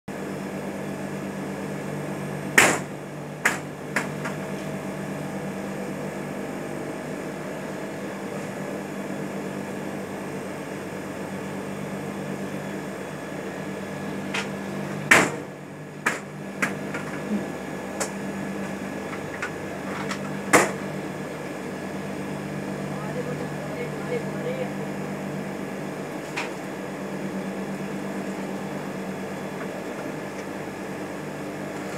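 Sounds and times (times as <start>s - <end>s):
train machinery humming: 0.2s - 31.9s.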